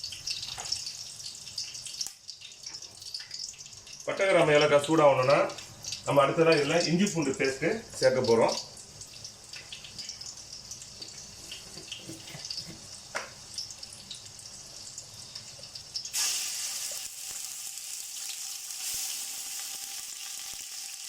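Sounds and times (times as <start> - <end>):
faint oil crackles: 0.0 - 21.0
paste sizzling in hot oil: 0.0 - 21.0.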